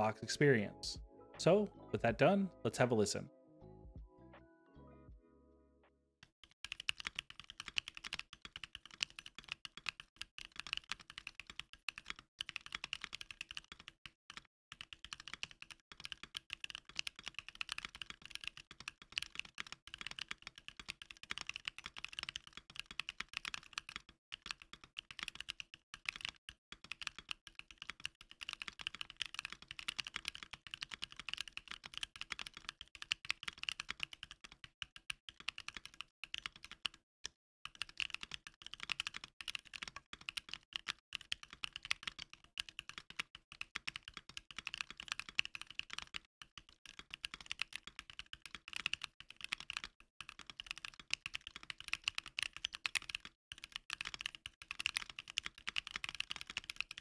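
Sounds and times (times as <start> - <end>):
rapid keyboard typing: 0.0 - 0.7, 6.2 - 57.0.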